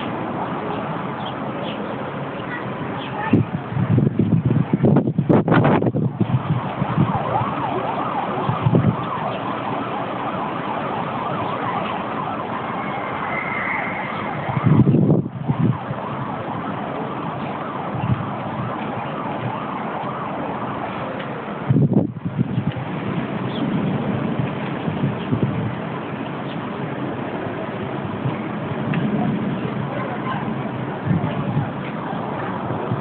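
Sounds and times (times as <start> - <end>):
steady rushing wind: 0.0 - 33.0
wind gusts buffeting microphone: 0.0 - 33.0.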